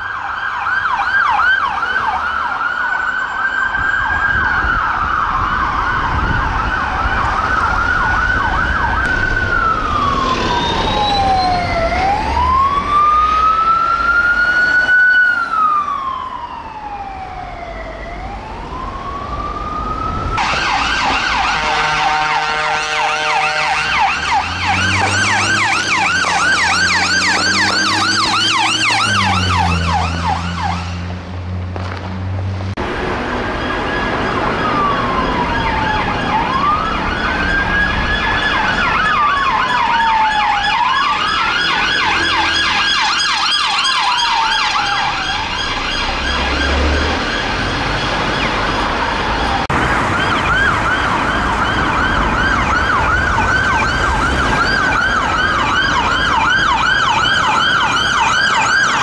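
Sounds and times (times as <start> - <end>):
fast yelp siren: 0.0 - 31.1, 33.4 - 59.0
ambulance siren sweeping: 0.0 - 59.0
slow wailing siren: 0.0 - 59.0.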